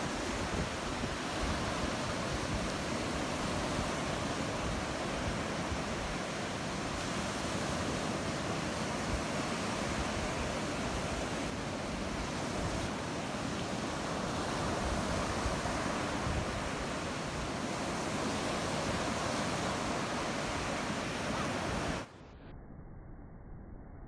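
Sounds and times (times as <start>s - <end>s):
ocean surf breaking: 0.0s - 22.1s.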